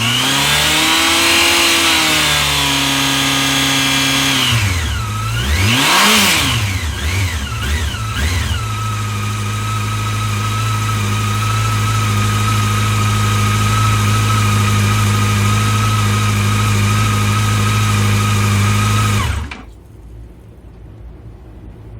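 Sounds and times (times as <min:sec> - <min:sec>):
motorcycle engine idling: 0:00.0 - 0:19.8
motorcycle engine revving: 0:00.0 - 0:19.8.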